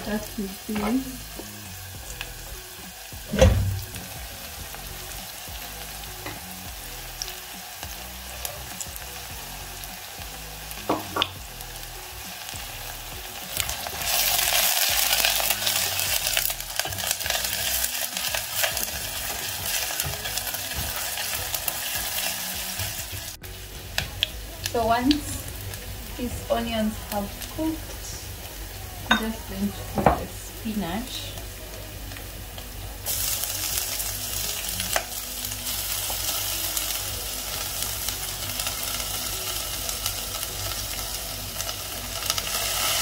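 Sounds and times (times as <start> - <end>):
onions sizzling in oil: 0.0 - 43.0.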